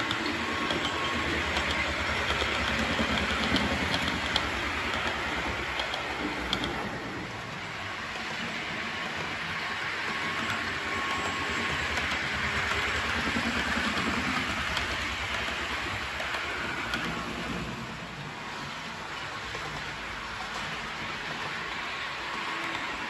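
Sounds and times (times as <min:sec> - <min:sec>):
model train wheels rolling: 0:00.0 - 0:23.0.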